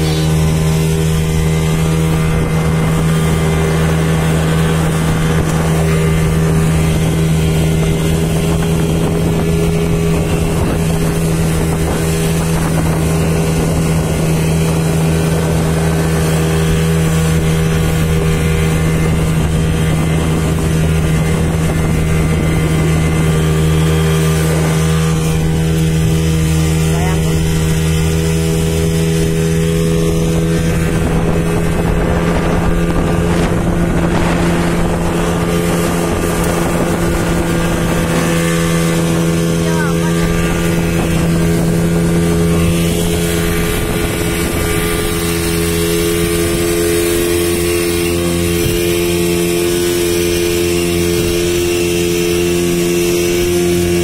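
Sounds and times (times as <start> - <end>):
speedboat engine running: 0.0 - 54.0
water rushing against hull: 0.0 - 54.0.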